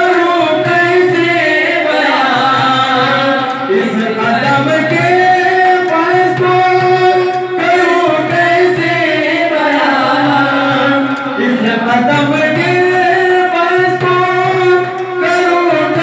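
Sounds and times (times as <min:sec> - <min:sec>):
frame drums: 0:00.0 - 0:16.0
men singing into microphones: 0:00.0 - 0:16.0.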